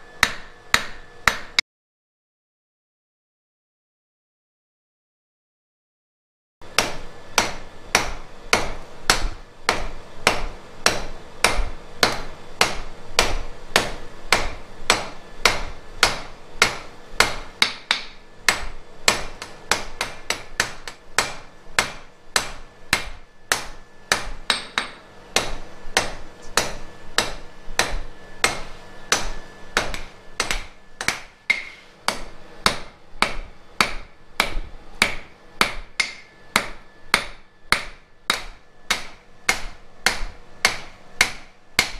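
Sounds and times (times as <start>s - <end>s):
hammer striking iron on anvil: 0.1s - 1.6s, 6.6s - 41.9s.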